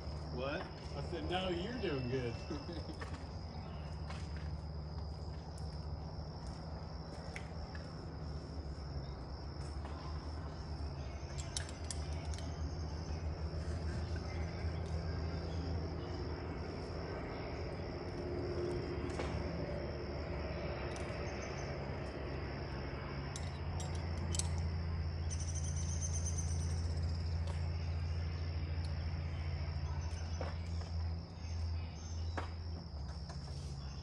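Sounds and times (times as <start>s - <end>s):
insects chirring: 0.0s - 34.0s
low steady hum: 0.0s - 34.0s.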